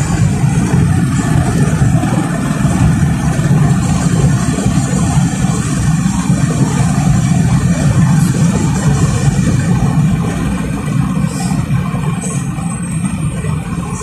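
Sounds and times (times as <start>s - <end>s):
car interior road noise: 0.0s - 14.0s.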